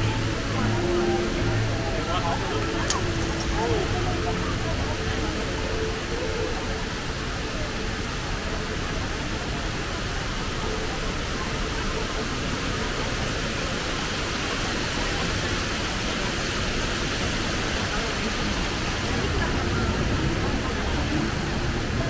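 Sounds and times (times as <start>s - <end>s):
indoor waterfall rushing: 0.0s - 22.0s.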